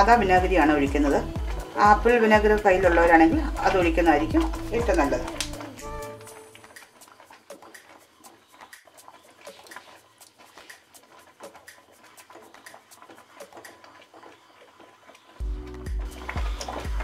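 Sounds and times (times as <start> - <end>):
spatula stirring sauce: 0.0 - 17.0
thick sauce bubbling and popping: 0.5 - 17.0.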